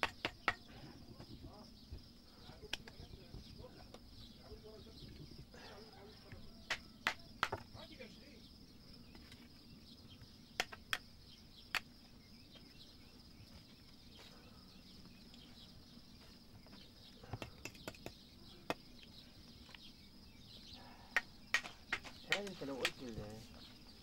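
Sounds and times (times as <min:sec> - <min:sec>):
insect chirring: 0:00.0 - 0:24.0.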